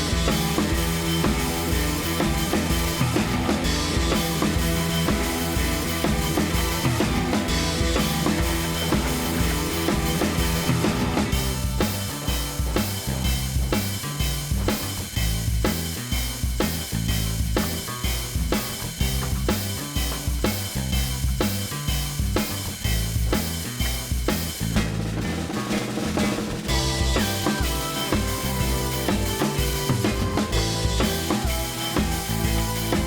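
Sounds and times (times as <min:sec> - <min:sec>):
drum-led background music: 0:00.0 - 0:33.0.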